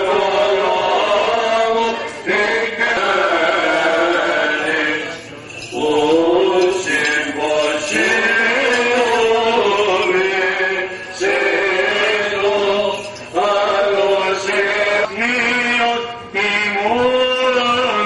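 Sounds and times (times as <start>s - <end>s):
chanters singing: 0.0s - 17.0s.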